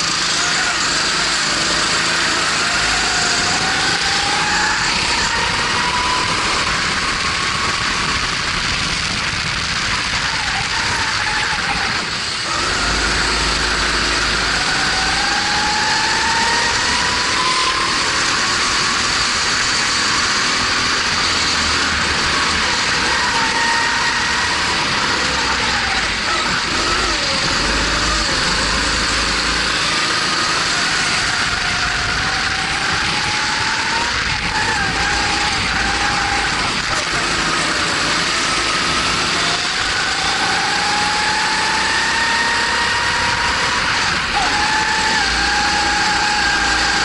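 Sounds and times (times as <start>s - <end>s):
kart engine under load: 0.0s - 47.0s
steady rushing noise: 0.0s - 47.0s.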